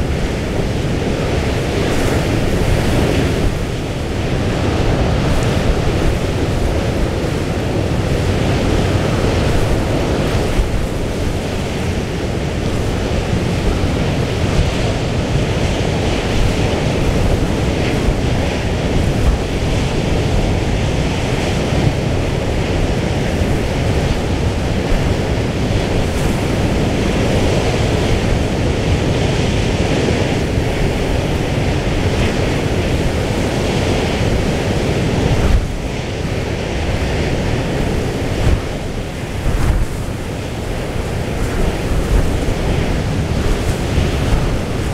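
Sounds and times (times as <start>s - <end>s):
rough sea rushing: 0.0s - 44.9s
wind buffeting microphone: 0.0s - 44.9s.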